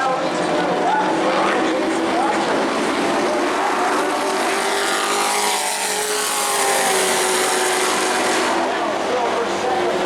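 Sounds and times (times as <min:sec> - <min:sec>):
racing truck engines: 0:00.0 - 0:10.0.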